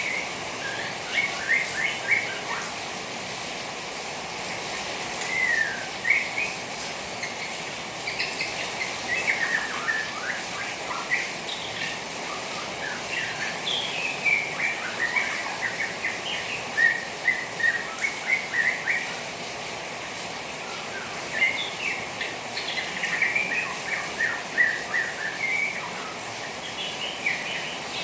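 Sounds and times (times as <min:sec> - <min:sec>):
bird twittering and whistling: 0:00.0 - 0:02.8, 0:05.2 - 0:19.2, 0:20.7 - 0:28.0
rain water hiss: 0:00.0 - 0:28.0.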